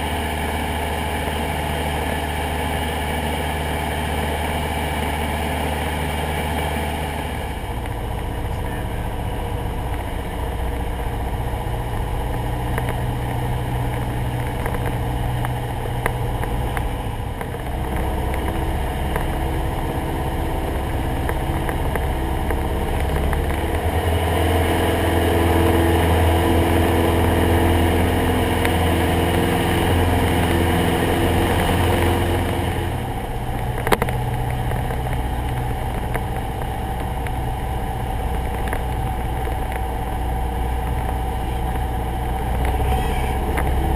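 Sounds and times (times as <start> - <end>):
airplane engine and propeller: 0.0 - 43.9.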